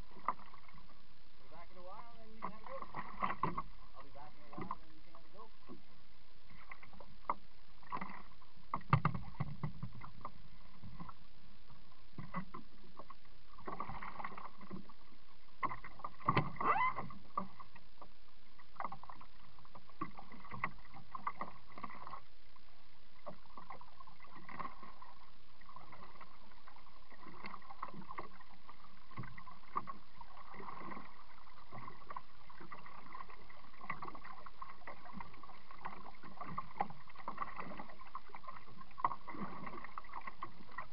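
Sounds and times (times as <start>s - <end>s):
water swishing and sloshing: 0.0s - 40.9s.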